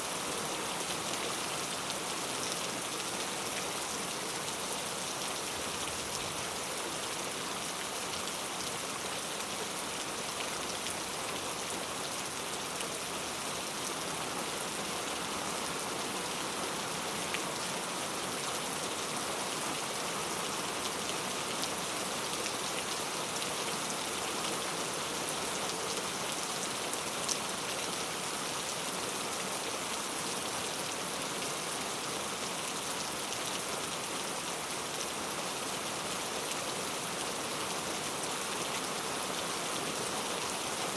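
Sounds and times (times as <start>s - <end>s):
heavy rain on hard surfaces: 0.0s - 40.9s.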